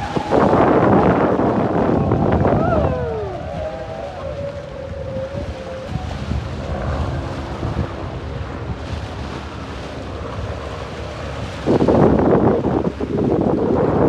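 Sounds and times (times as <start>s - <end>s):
boat engine rumble: 0.0s - 14.0s
wind buffeting microphone: 0.0s - 14.0s.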